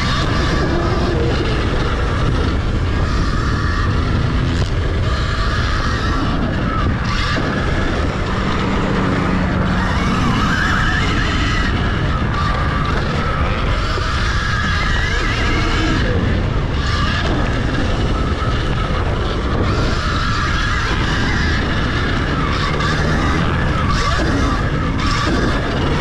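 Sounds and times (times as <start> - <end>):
electric motor whine: 0.0 - 26.0
wind and ground noise: 0.0 - 26.0.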